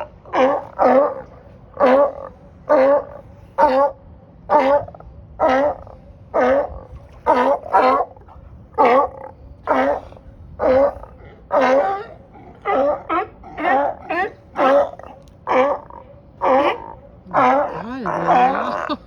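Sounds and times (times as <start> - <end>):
sea lions barking: 0.0 - 19.0.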